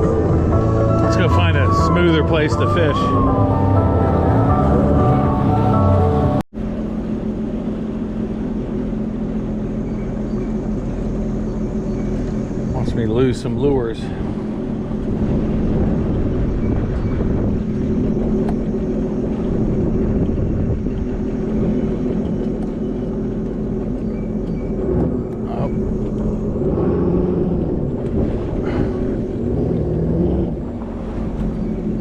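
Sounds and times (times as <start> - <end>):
jet ski engine drone: 0.0 - 32.0.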